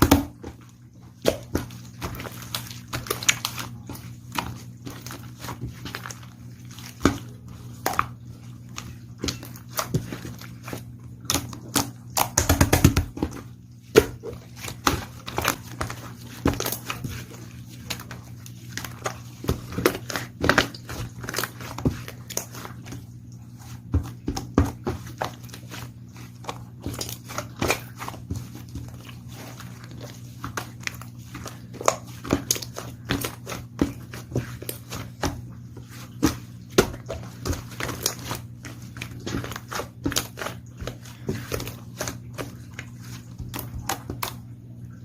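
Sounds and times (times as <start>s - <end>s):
chewing and crinkling: 0.0s - 45.0s
steady low hum: 0.0s - 45.0s.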